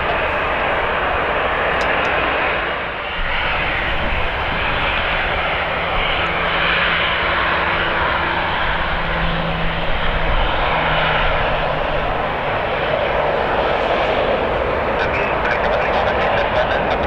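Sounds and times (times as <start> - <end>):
jet engines roaring: 0.0 - 17.0
low hum: 0.0 - 17.0.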